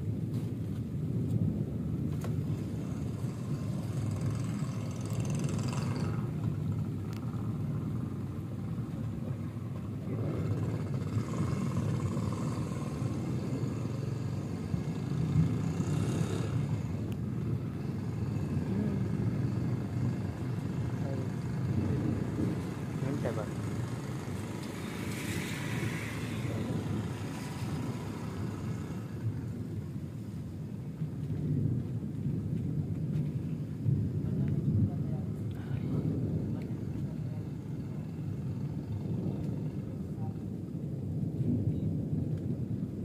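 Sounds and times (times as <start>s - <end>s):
rolling thunder: 0.0s - 43.0s.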